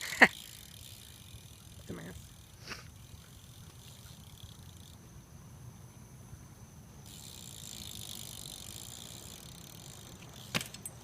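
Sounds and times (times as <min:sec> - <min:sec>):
bike freewheel ratchet buzzing: 0:00.0 - 0:05.2, 0:06.8 - 0:11.0.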